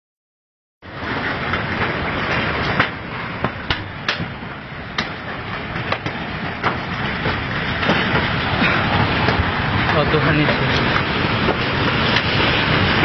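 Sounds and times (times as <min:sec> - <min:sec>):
continuous rumbling: 0:00.8 - 0:13.0
sharp knocks and clatters: 0:01.0 - 0:13.0.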